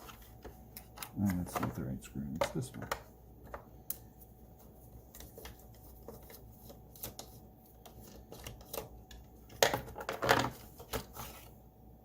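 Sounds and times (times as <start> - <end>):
plastic parts being handled: 0.0 - 11.6.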